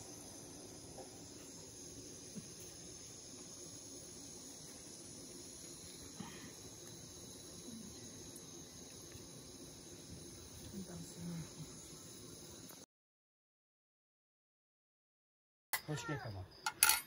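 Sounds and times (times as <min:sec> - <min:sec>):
crickets chirping: 0:00.0 - 0:12.9, 0:15.8 - 0:17.0.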